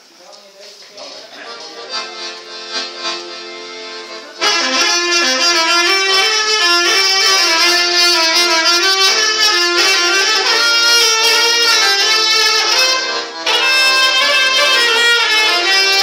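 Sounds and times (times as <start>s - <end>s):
accordion accompaniment: 0.6s - 16.0s
clarinet melody: 1.6s - 16.0s.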